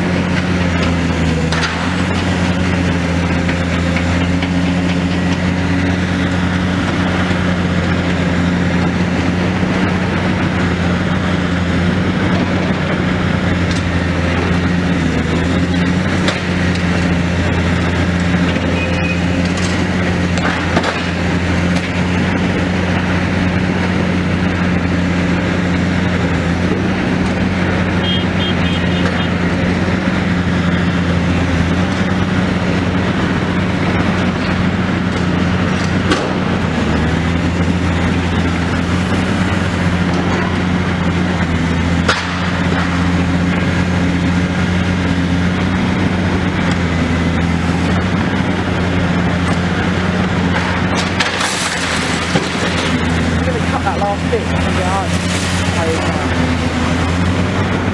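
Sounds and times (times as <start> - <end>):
excavator engine running: 0.0 - 57.9.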